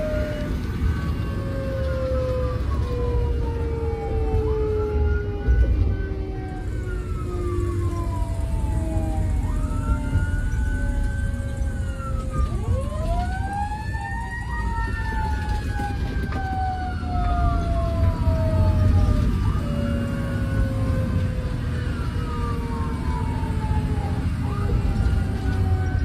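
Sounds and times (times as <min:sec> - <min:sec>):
fire engine siren wailing: 0:00.0 - 0:26.0
road noise: 0:00.0 - 0:26.0
truck engine rumble: 0:00.0 - 0:26.0.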